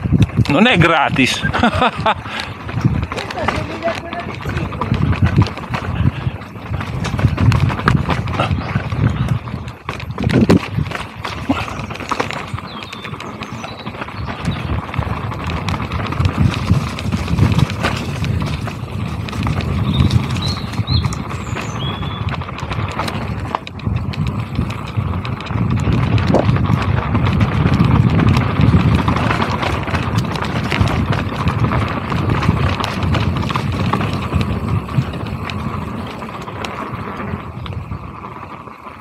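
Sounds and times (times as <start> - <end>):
bike rattling over bumps: 0.0 - 39.0
bike tyres rumbling over dirt: 0.0 - 39.0
wind rumble on microphone: 0.0 - 39.0.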